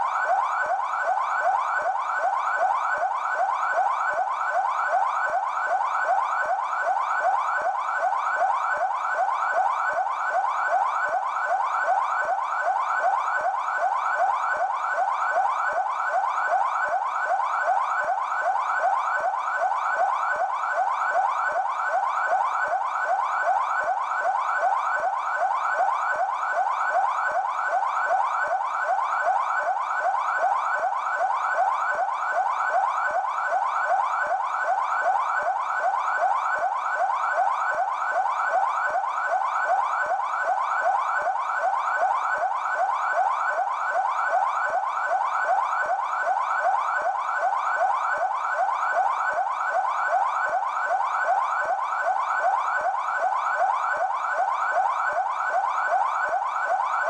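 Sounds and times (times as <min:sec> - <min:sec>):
police siren yelping: 0:00.0 - 0:57.0.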